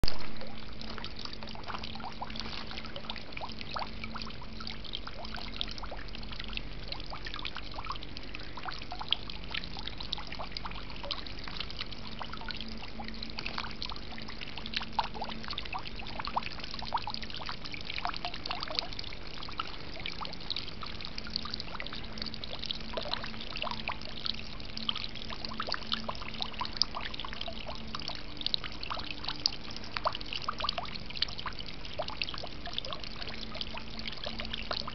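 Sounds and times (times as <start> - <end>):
water splashes and drips: 0.0 - 34.9
fountain water pouring: 0.1 - 34.9.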